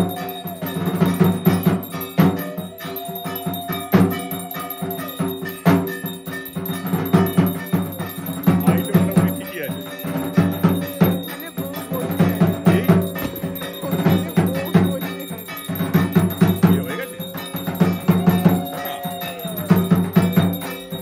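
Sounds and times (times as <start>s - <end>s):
held wavering tone: 0.0s - 21.0s
rhythmic drumbeats: 0.0s - 21.0s
ringing bells: 0.0s - 21.0s.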